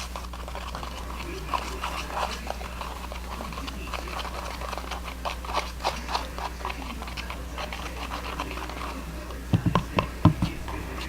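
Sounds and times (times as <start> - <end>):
soft squishing: 0.0 - 11.0
spoon scraping a container: 0.0 - 11.0.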